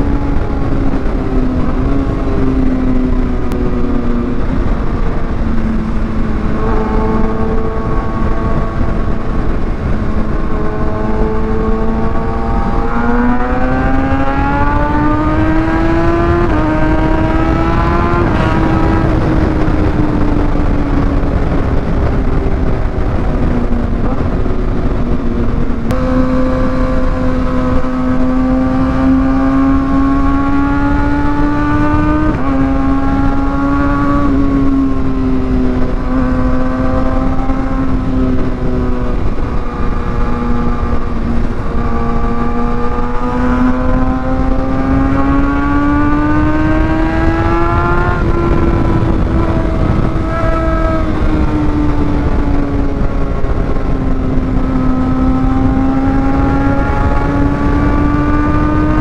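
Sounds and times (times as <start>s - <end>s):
low wind rumble: 0.0s - 59.0s
motorcycle engine exhaust note: 0.0s - 59.0s.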